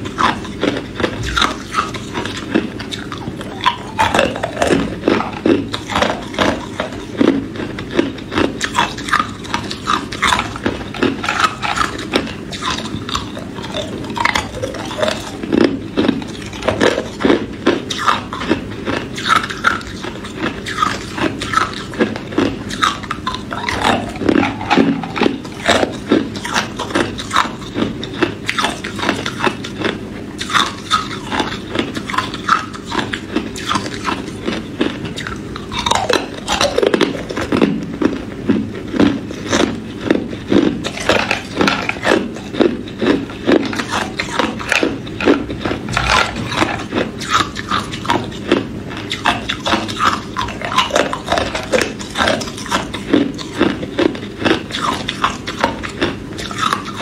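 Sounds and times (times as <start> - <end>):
ice cubes crunched by teeth: 0.0 - 38.2, 38.9 - 57.0.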